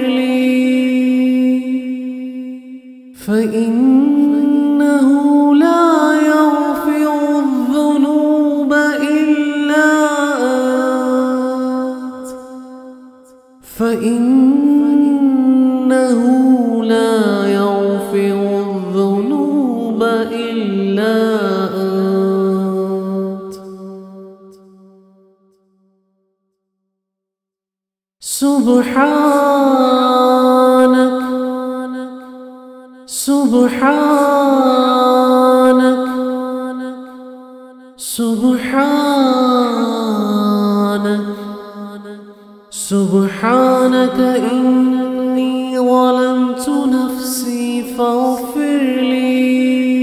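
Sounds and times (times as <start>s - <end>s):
voice chanting melismatic melody: 0.0s - 25.1s, 28.2s - 50.0s.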